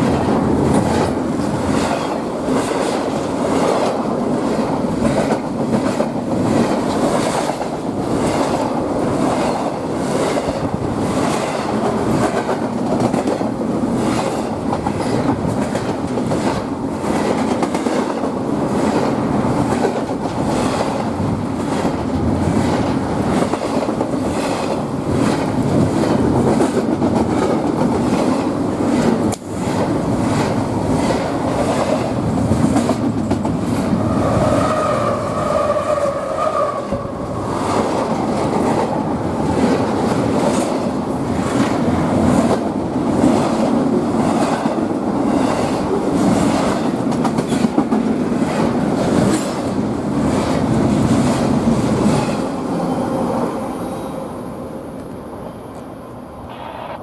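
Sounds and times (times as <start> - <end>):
train wheels clattering on rails: 0.0 - 53.5.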